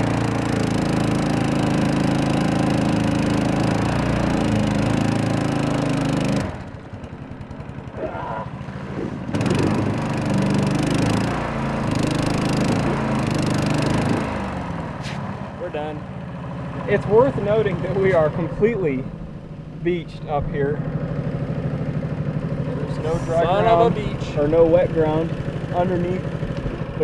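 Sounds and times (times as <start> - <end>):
boat motor running: 0.0 - 27.0.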